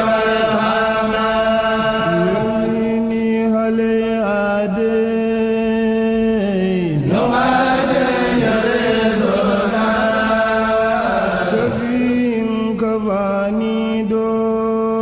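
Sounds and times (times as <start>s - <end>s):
person chanting long notes: 0.0s - 15.0s.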